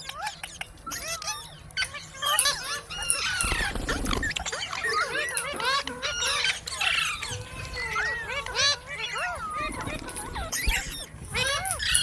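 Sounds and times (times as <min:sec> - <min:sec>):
parrot squawk: 0:00.0 - 0:12.0
parrots chattering: 0:00.0 - 0:12.0.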